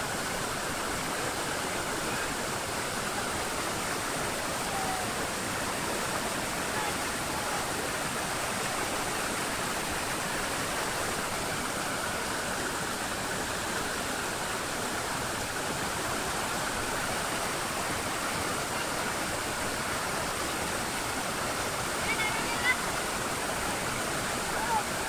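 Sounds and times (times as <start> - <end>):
river water rushing over rocks: 0.0 - 25.0.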